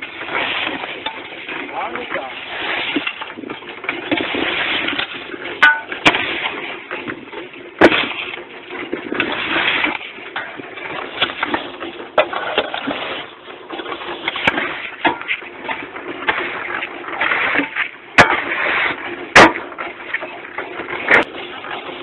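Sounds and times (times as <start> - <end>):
shovel scraping concrete on steel: 0.0 - 22.0.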